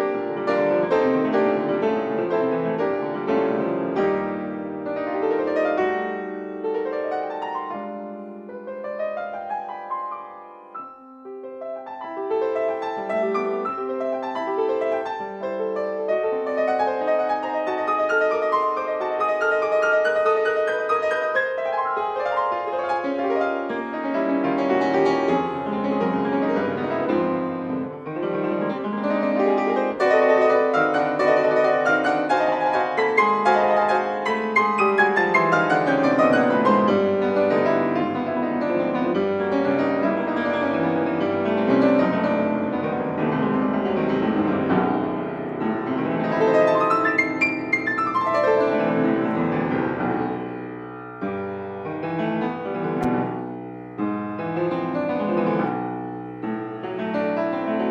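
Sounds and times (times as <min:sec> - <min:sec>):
solo piano piece: 0:00.0 - 0:57.9.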